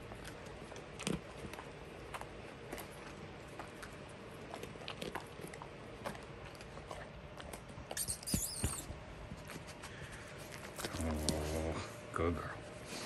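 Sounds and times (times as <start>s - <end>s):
dog chewing a treat: 0.0s - 11.8s.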